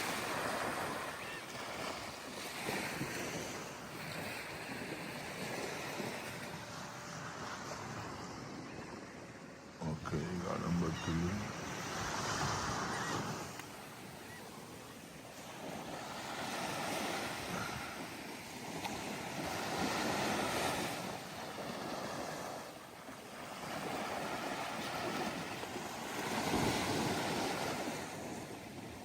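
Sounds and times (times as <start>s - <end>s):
surf washing on a beach: 0.0s - 29.0s.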